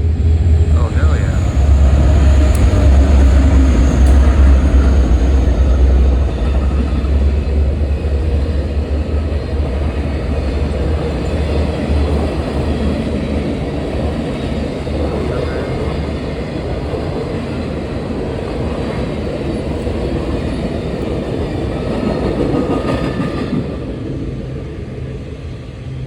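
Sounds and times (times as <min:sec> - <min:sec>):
freight train rumbling over rails: 0:00.0 - 0:26.0.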